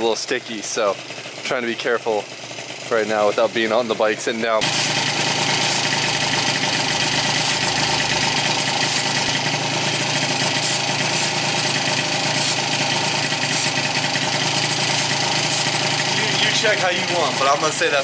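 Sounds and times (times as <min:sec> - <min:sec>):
two-stroke engine idling: 0:00.0 - 0:18.0.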